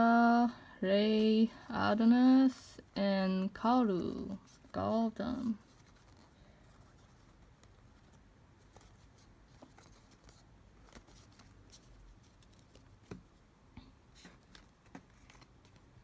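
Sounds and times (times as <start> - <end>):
low room hiss: 0.0 - 16.0.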